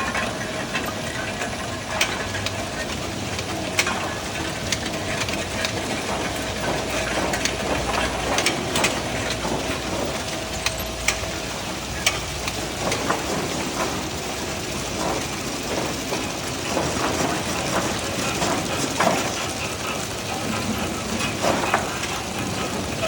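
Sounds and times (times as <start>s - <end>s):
machine clicks and rattles: 0.0s - 23.0s
machine whirring: 0.0s - 23.0s.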